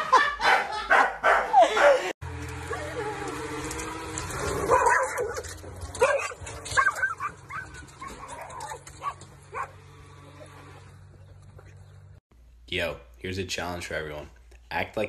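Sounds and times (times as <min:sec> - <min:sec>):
dogs barking and yipping: 0:00.0 - 0:12.1.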